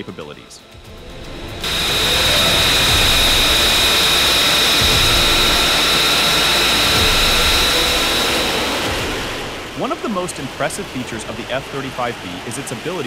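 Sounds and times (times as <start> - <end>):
jet engine rushing with whine: 0.8 - 13.0.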